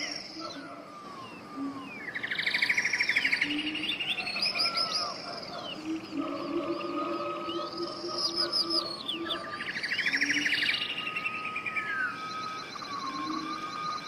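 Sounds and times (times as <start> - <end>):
birds chirping and trilling: 0.0 - 14.0
long steady whistled note: 0.0 - 14.0.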